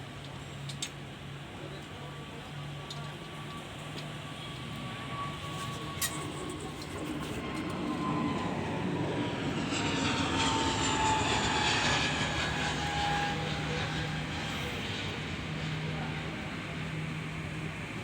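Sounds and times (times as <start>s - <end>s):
passing engine with whine: 0.1s - 18.0s.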